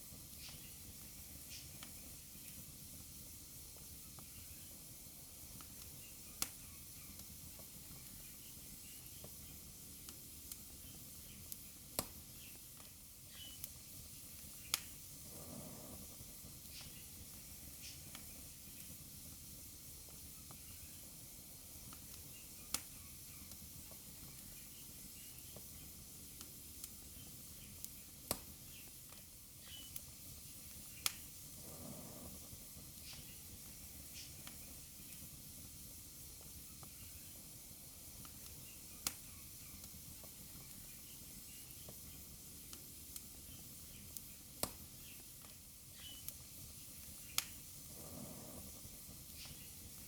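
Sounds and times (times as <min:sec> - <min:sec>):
sharp pops from fire: 0:00.0 - 0:50.0
wood fire crackling: 0:00.0 - 0:50.0.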